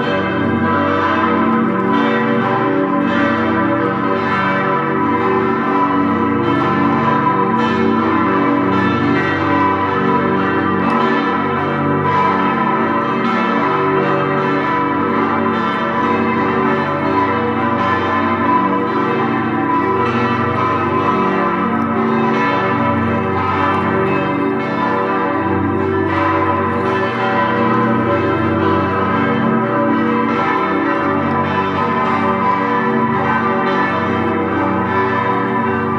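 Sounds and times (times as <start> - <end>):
church bells pealing together: 0.0 - 35.9.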